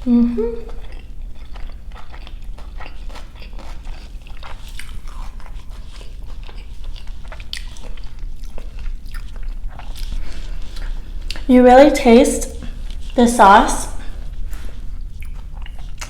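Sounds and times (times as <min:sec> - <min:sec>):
crunchy chewing: 0:00.6 - 0:11.5, 0:14.0 - 0:16.0.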